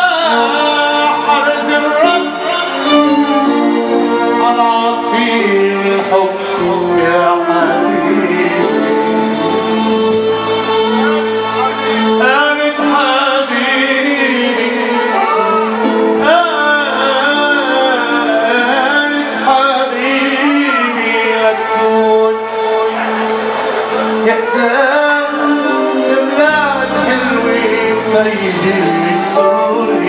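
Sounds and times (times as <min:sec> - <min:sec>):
keyboard chords: 0:00.0 - 0:30.0
man singing into a microphone: 0:00.0 - 0:30.0.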